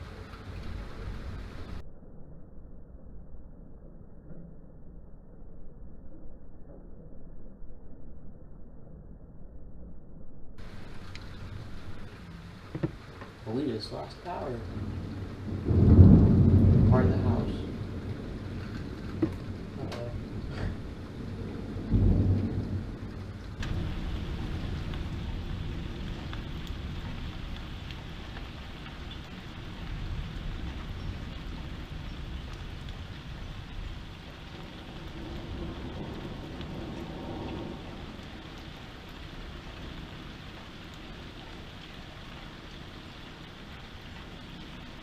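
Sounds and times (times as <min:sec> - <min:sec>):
heavy rain falling: 0:00.0 - 0:01.8, 0:10.6 - 0:45.0
thunder crack and rumble: 0:00.0 - 0:01.8, 0:10.6 - 0:45.0.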